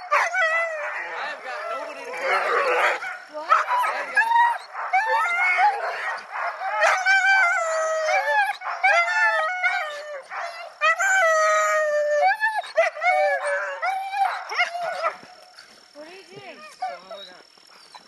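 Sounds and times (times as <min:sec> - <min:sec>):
dogs howling and yelping: 0:00.0 - 0:18.0.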